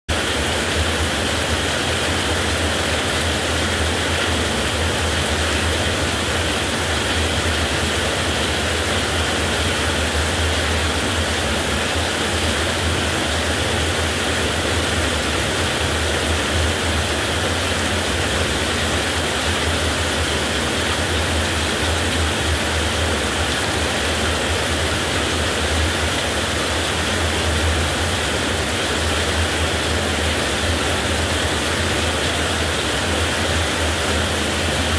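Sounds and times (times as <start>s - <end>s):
heavy rain hiss: 0.1s - 34.9s.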